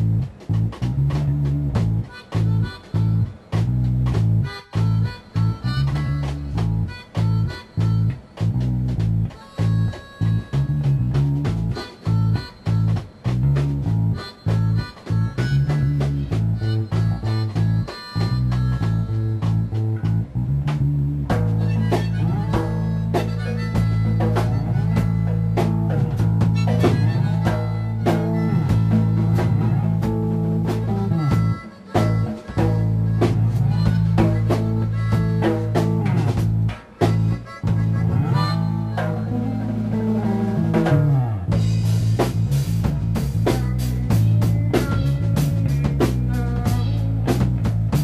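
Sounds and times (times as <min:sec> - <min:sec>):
bass guitar riff: 0:00.0 - 0:48.0
drum kit: 0:00.0 - 0:48.0
harmonica with bent notes: 0:00.0 - 0:48.0.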